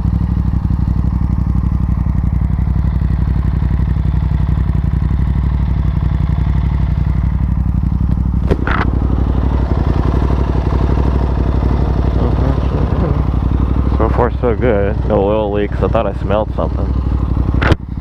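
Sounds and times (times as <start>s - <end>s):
motorcycle engine running steadily: 0.0s - 18.0s.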